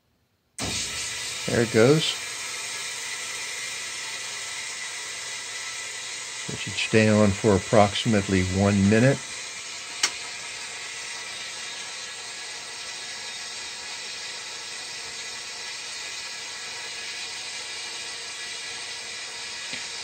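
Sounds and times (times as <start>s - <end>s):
water hissing through pipe: 0.6s - 20.0s.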